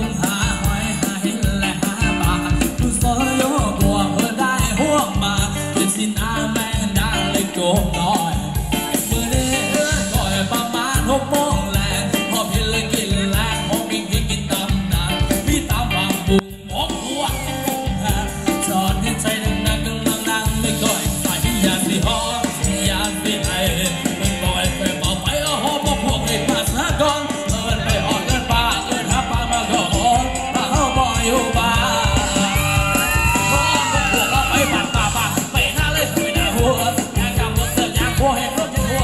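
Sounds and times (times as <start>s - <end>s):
heavy beat: 0.0s - 39.0s
live band dance music: 0.0s - 39.0s
person singing: 0.0s - 39.0s.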